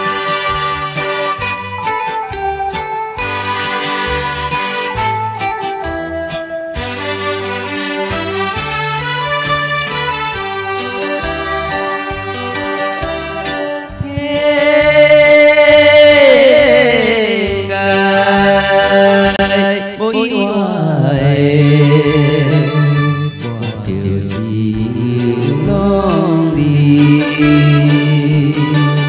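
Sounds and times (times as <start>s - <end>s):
backing accompaniment: 0.0s - 29.0s
vibrato melody with sliding pitch: 0.0s - 29.0s.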